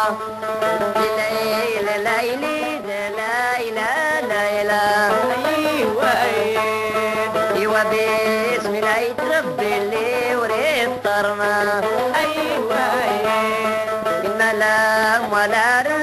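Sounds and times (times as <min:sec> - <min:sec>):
ornamented folk melody: 0:00.0 - 0:16.0.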